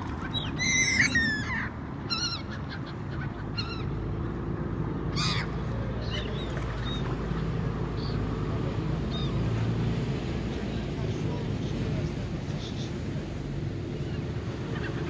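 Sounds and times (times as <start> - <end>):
ferry engine drone: 0.0 - 15.0
seagulls calling: 0.0 - 15.0.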